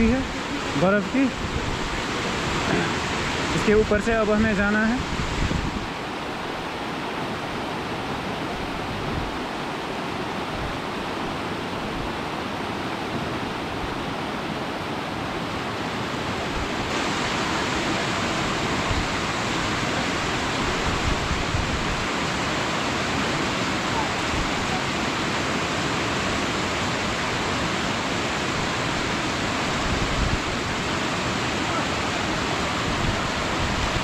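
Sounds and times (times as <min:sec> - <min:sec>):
river water roaring: 0:00.0 - 0:34.0.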